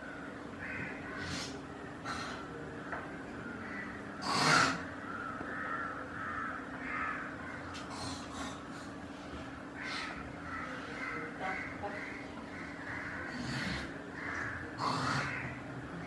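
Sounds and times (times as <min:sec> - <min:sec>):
steady low hum: 0:00.0 - 0:16.0
crow-like caws: 0:00.1 - 0:02.5, 0:03.6 - 0:09.0, 0:09.7 - 0:15.6.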